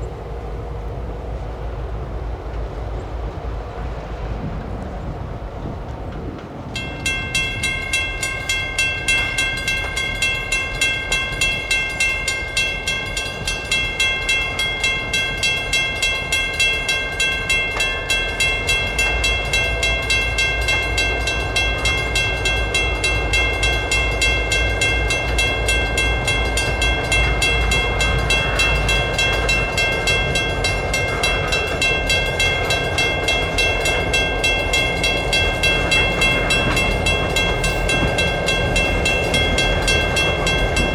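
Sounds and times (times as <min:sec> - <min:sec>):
diesel locomotive engine rumble: 0:00.0 - 0:40.9
locomotive bell ringing: 0:06.8 - 0:40.9.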